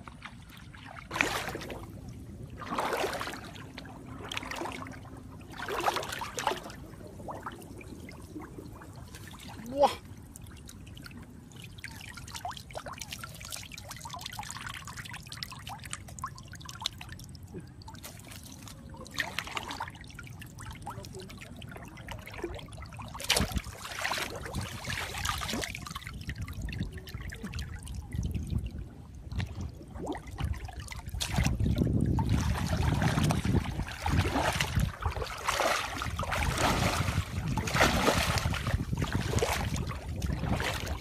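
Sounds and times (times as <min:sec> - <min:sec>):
small splashes: 0:00.0 - 0:28.4, 0:29.3 - 0:41.0
water trickling and dripping: 0:00.0 - 0:41.0.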